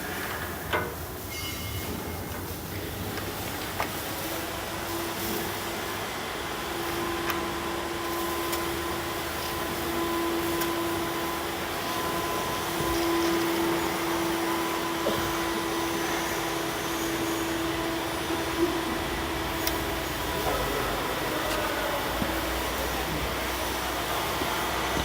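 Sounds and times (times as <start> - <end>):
wood crusher whirring hum: 4.4 - 25.0.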